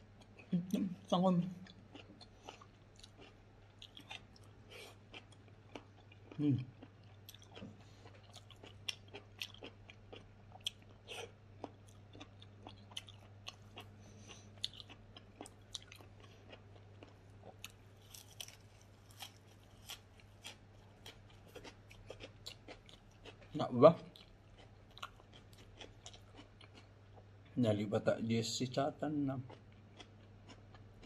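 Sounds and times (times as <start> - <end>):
steady low hum: 0.0 - 31.0
person chewing crunchy food: 1.6 - 27.3, 29.4 - 31.0.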